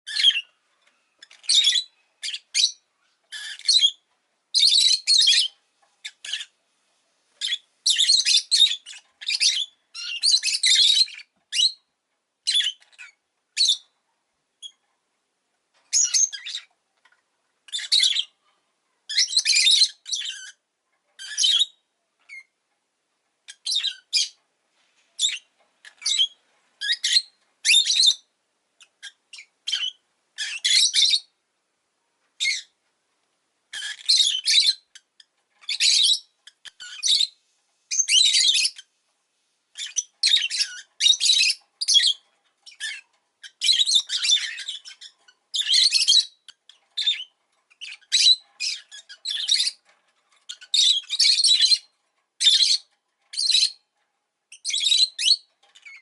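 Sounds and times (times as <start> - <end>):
lovebird chirping and squawking: 0.1 - 0.6, 1.2 - 6.6, 7.4 - 13.9, 15.9 - 16.7, 17.7 - 18.4, 19.1 - 20.6, 21.2 - 22.5, 23.4 - 24.4, 25.2 - 31.3, 32.4 - 32.8, 33.7 - 38.9, 39.7 - 53.8, 54.5 - 56.0.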